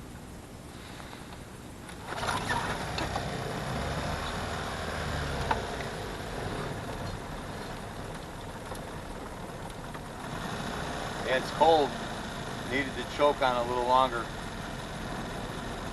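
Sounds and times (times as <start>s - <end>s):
outboard motor starting and running: 0.8s - 15.9s.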